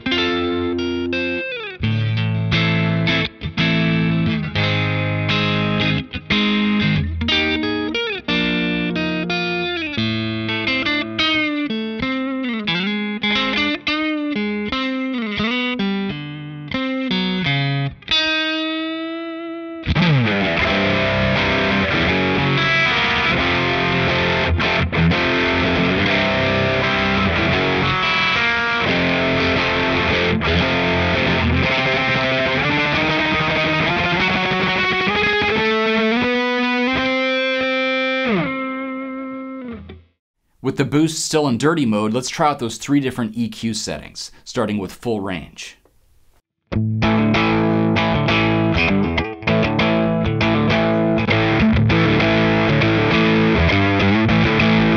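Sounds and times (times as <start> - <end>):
electric guitar playing: 0.0 - 40.2, 46.7 - 54.9.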